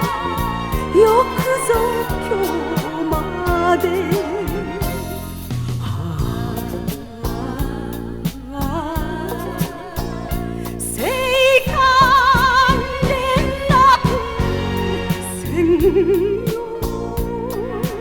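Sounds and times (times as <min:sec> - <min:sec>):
band playing with drum beat: 0:00.0 - 0:18.0
sliding melody with vibrato: 0:00.0 - 0:18.0.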